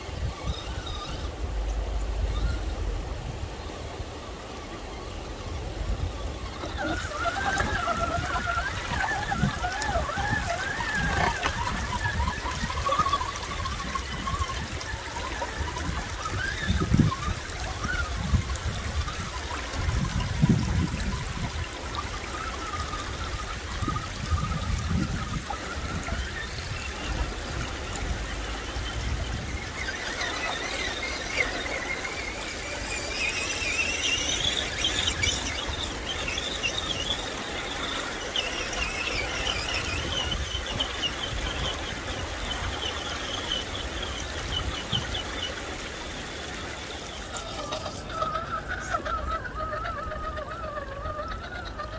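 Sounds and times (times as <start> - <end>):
stream water running: 0.0 - 51.9.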